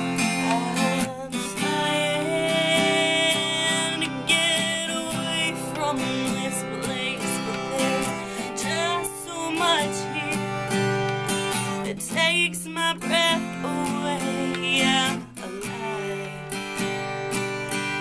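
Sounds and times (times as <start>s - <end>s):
acoustic guitar strumming: 0.0s - 18.0s
woman singing: 0.0s - 18.0s.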